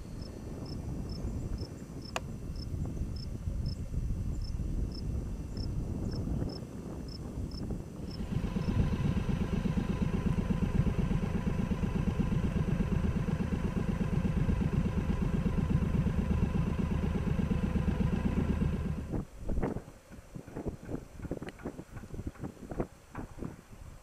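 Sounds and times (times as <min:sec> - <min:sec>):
engine running steadily: 0:00.0 - 0:23.9.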